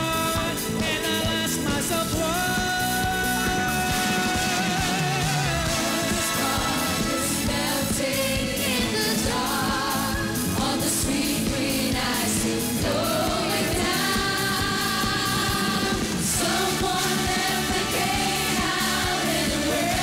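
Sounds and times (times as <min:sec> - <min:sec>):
upbeat backing track: 0:00.0 - 0:20.0
women singing pop song: 0:00.0 - 0:20.0.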